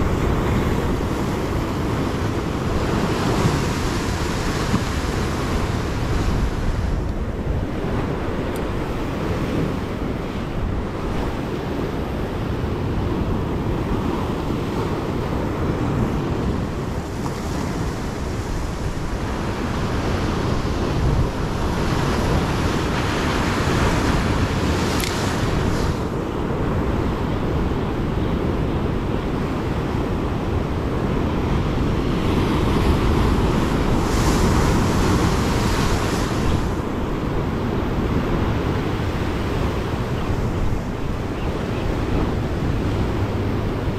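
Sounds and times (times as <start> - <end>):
waves breaking over rocks: 0.0 - 27.0, 30.8 - 41.3
wind buffeting microphone: 0.0 - 43.9.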